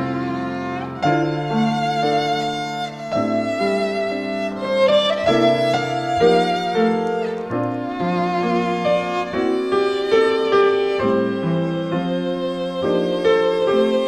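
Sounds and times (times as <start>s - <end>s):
violin melody with vibrato: 0.0s - 14.0s.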